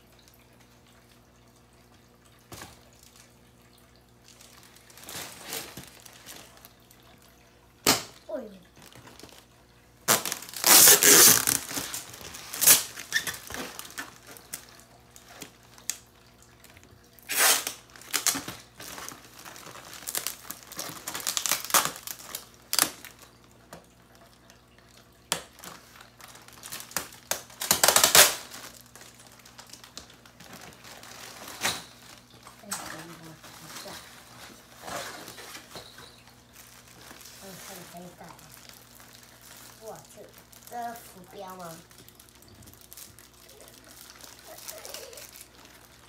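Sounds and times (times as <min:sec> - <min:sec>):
plastic packaging crinkling: 0:02.3 - 0:07.4, 0:08.4 - 0:46.0.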